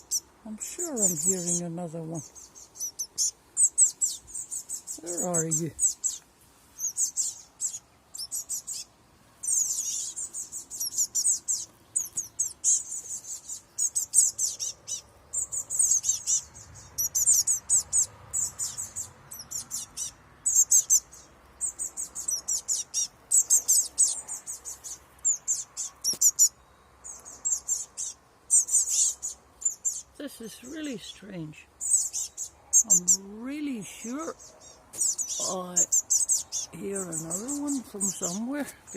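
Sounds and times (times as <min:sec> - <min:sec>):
fledgling birds chirping: 0:00.0 - 0:38.9.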